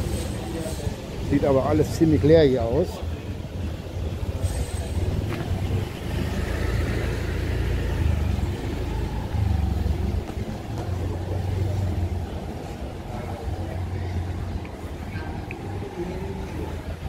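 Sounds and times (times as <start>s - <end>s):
city traffic rumble: 0.0s - 17.0s
scooter engines running: 0.0s - 17.0s.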